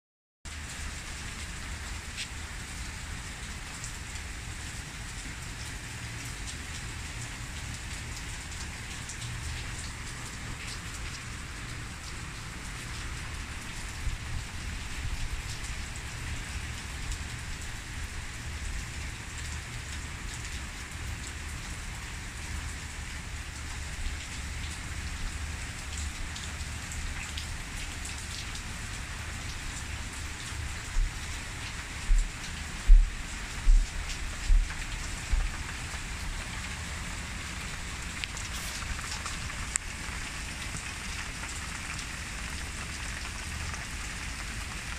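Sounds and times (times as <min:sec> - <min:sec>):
steady rain falling: 0:00.5 - 0:44.9.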